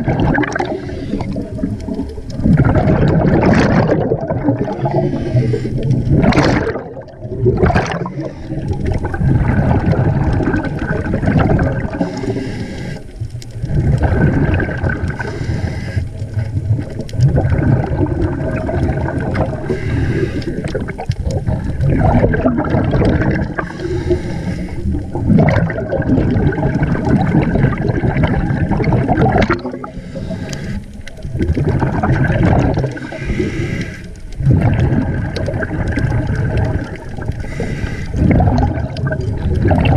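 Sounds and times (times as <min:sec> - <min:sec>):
underwater breathing bubbles gurgling: 0:00.0 - 0:39.9.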